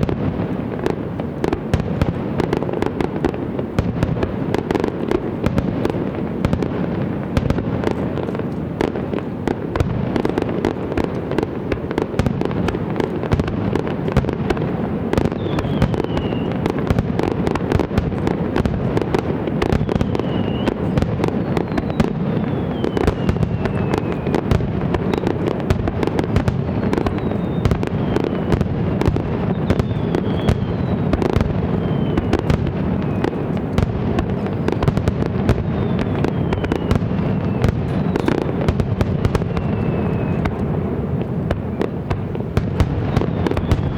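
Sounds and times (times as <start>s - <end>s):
fireworks bangs and crackling: 0.0s - 43.9s
fireworks whistling: 0.0s - 43.9s.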